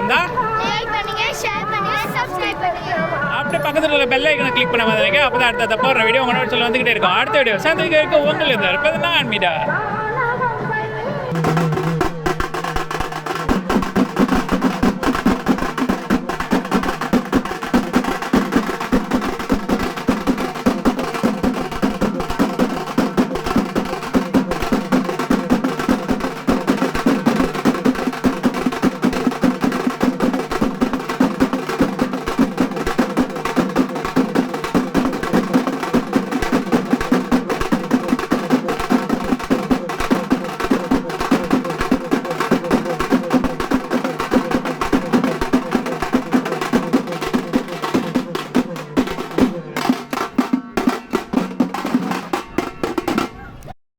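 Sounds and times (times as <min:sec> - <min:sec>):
fast drumming: 0:00.0 - 0:09.6, 0:11.3 - 0:53.6.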